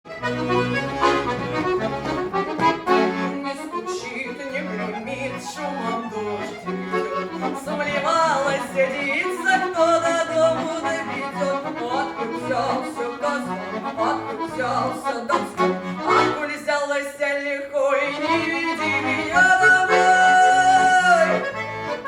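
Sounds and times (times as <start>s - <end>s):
accordion playing folk melody: 0.0s - 17.0s, 17.8s - 22.0s.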